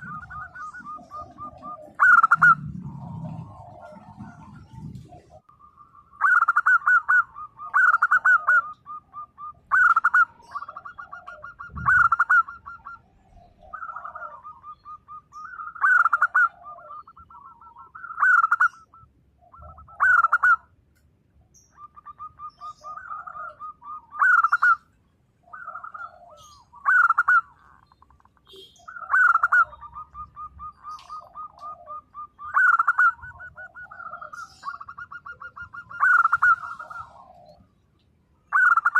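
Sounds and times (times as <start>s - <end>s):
dove cooing: 0.0s - 20.7s, 21.6s - 37.8s, 38.4s - 38.9s.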